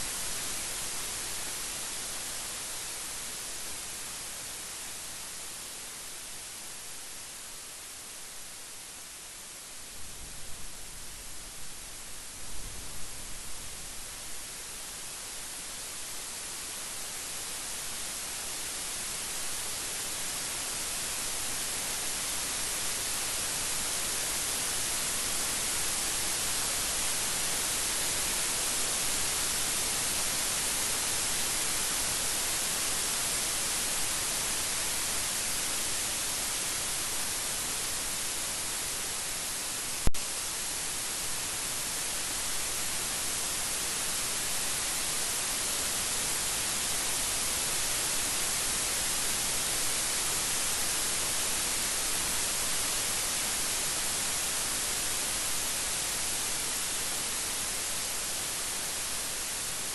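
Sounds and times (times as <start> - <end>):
heavy rain: 10.9 - 59.9.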